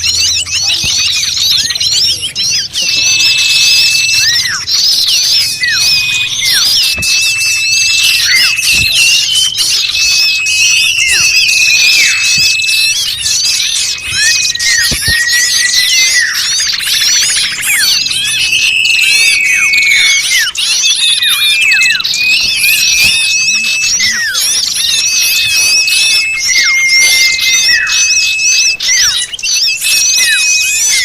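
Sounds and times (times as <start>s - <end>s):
chorus of small birds calling: 0.0s - 31.0s.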